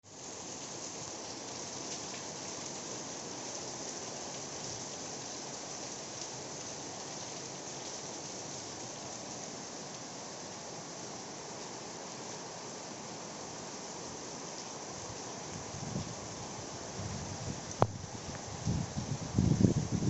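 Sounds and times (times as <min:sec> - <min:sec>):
rain pattering: 0:00.1 - 0:10.8, 0:14.4 - 0:20.0.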